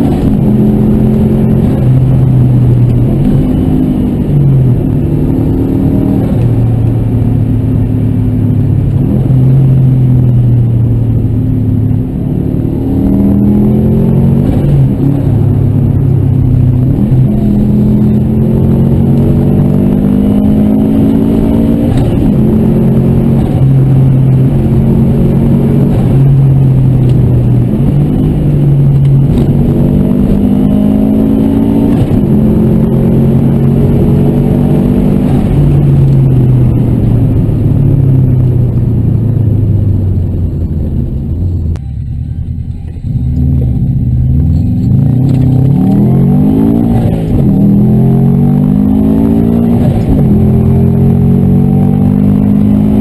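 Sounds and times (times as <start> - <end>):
car engine accelerating through gears: 0.0 - 41.9, 42.8 - 53.0.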